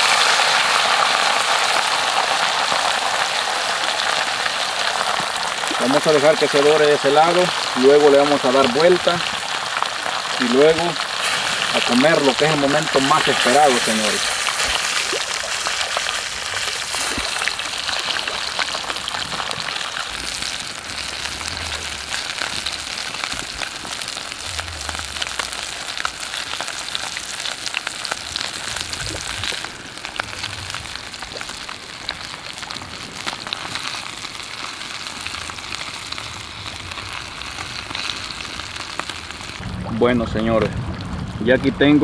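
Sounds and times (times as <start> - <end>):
fish frying in hot oil: 0.0 - 39.6.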